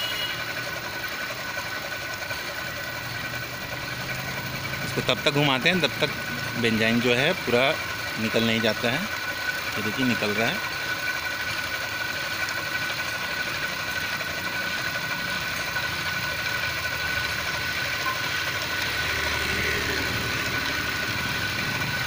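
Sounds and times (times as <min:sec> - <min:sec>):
centrifuge motor whining: 0:00.0 - 0:22.0.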